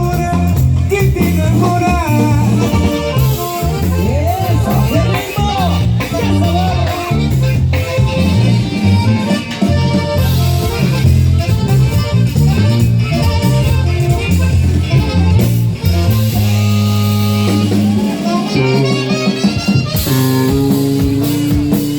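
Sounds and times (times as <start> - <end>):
bouncing bass line: 0.0 - 21.9
cumbia band playing: 0.0 - 21.9
reedy lead melody: 0.0 - 21.9.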